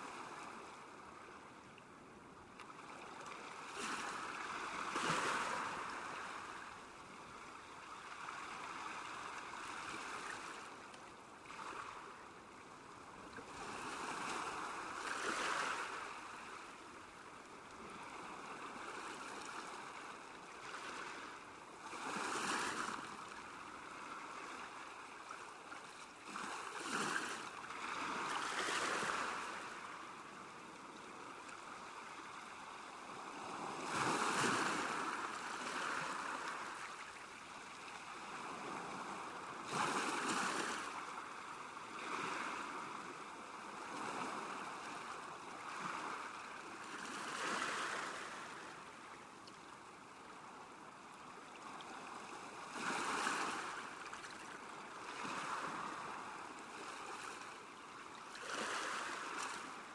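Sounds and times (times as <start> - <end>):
water lapping at a lakeshore: 0.0 - 59.9.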